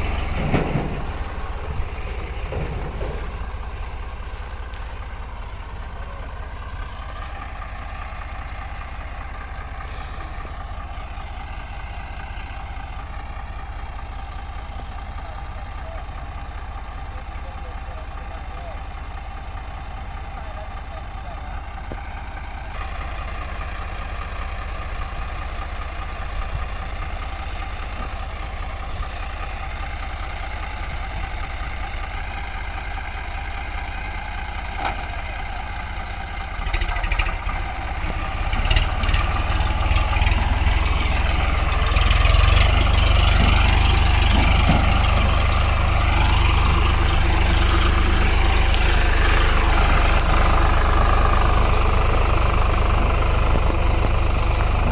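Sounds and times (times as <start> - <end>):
tractor engine revving: 0.0 - 54.9.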